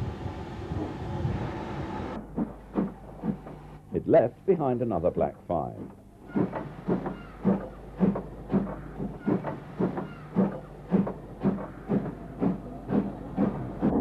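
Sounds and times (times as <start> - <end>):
steam locomotive chuffing: 0.0 - 3.8, 5.8 - 14.0.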